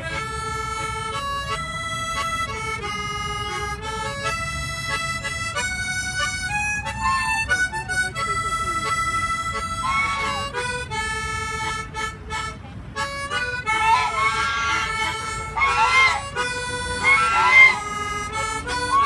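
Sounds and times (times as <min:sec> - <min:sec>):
harmonica melody: 0:00.0 - 0:19.0.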